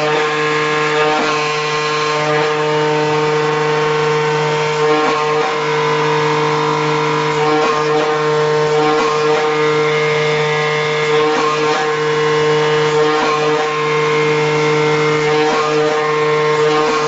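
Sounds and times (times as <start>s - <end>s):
cutting machine humming: 0.0s - 17.0s.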